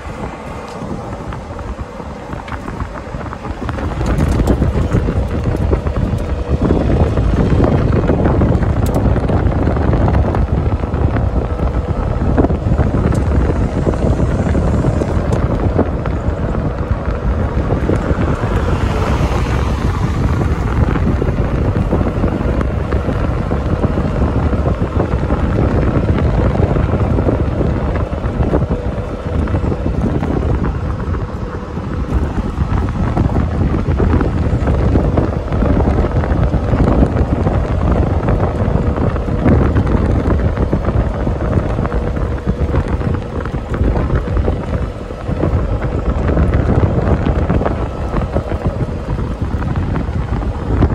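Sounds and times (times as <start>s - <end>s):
golf cart running: 0.0s - 50.9s
wind buffeting microphone: 0.0s - 50.9s.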